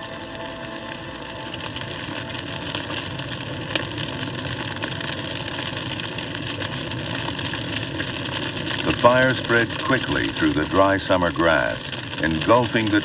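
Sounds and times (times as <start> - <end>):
fire roaring and crackling: 0.0 - 13.0.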